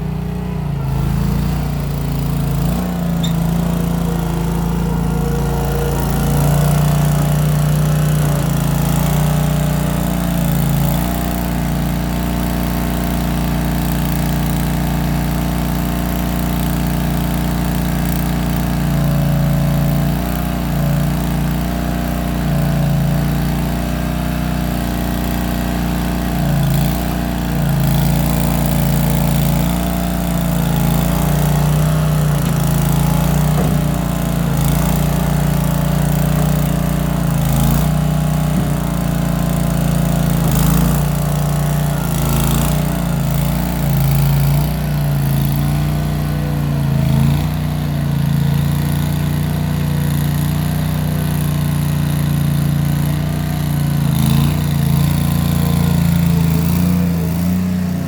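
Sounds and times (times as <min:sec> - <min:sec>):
skid steer engine running: 0:00.0 - 0:58.0.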